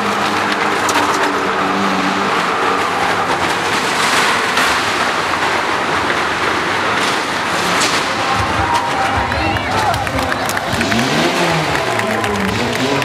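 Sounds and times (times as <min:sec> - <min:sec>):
fairground noise: 0:00.0 - 0:13.0
vehicle engine running: 0:00.0 - 0:13.0.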